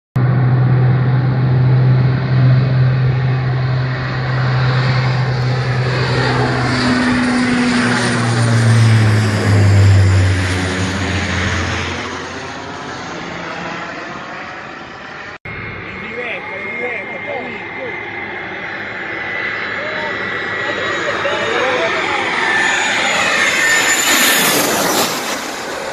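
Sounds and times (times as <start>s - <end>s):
propeller airplane drone: 0.2s - 25.9s.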